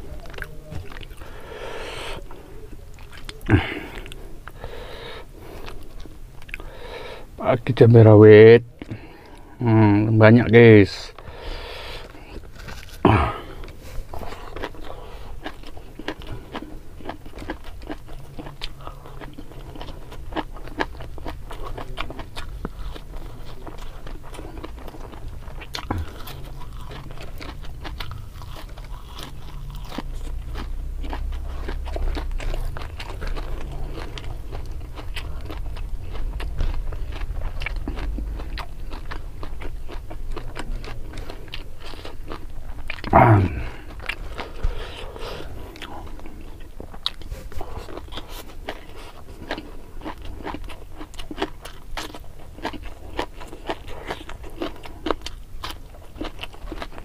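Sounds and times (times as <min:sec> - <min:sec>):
person crunching and chewing: 0:00.0 - 0:09.8, 0:10.4 - 0:57.0.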